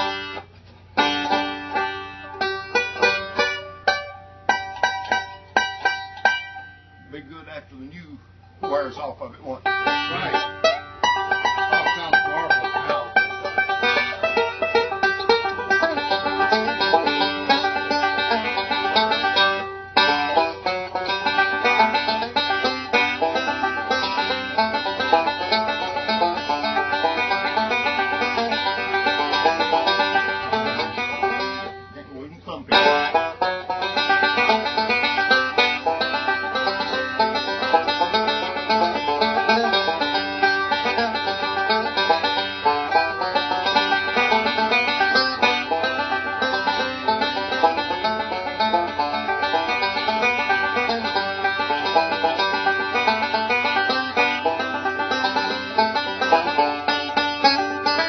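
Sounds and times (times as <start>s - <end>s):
banjo picking: 0.0s - 58.0s.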